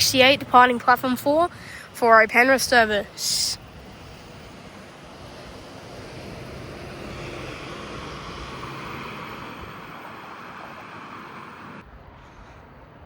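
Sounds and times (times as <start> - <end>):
high motor hum: 0.0 - 11.9.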